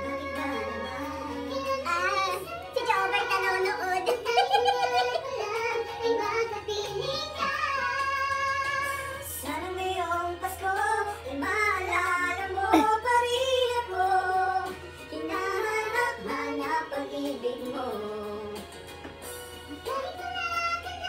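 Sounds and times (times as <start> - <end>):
person singing into a microphone: 0.0 - 18.6
music backing track: 0.0 - 21.0.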